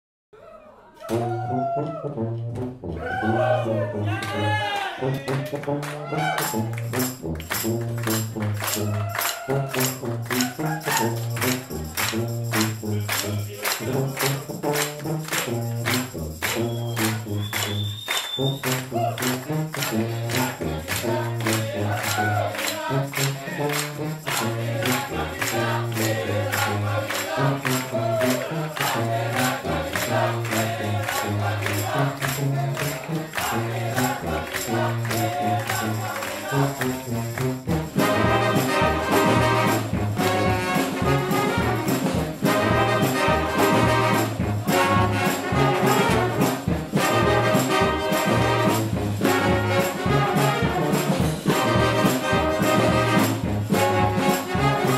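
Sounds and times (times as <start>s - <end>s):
horn section playing: 1.0s - 54.9s
percussion beat: 3.9s - 54.9s.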